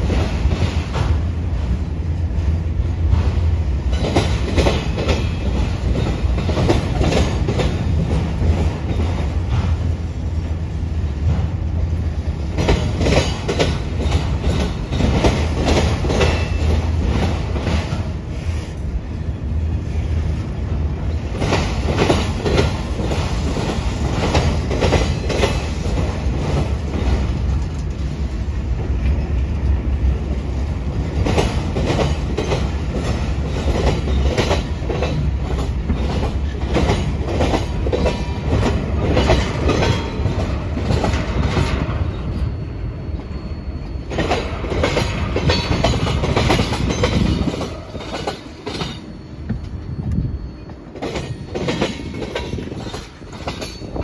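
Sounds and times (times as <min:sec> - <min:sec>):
train wheels clattering on rails: 0:00.0 - 0:19.0, 0:19.8 - 0:54.0
low train rumble: 0:00.0 - 0:54.0.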